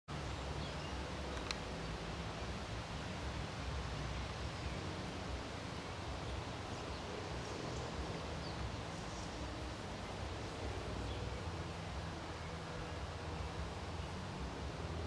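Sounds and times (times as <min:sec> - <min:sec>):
outdoor background hiss: 0:00.1 - 0:15.0.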